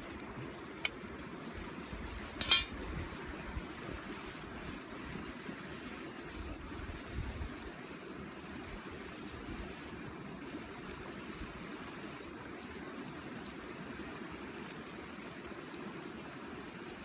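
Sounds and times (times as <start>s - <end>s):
fire crackling: 0.0s - 17.0s
fire rushing: 0.0s - 17.0s.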